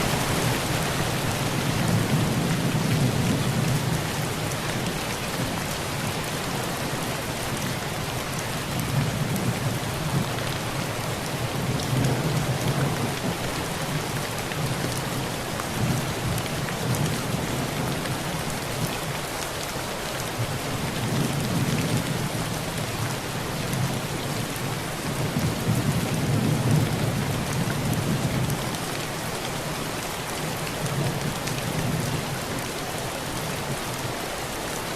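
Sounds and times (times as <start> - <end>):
heavy rain on a tin roof: 0.0 - 34.9.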